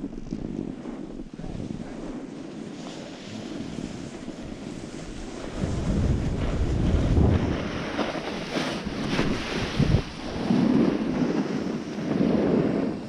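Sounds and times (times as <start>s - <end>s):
snowboard sliding on snow: 0.0s - 13.0s
wind rushing over microphone: 0.0s - 13.0s.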